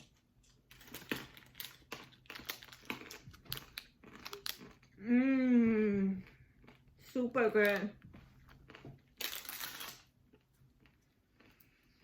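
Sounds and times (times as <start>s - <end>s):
peanuts being chewed: 0.0s - 5.1s, 6.1s - 12.0s.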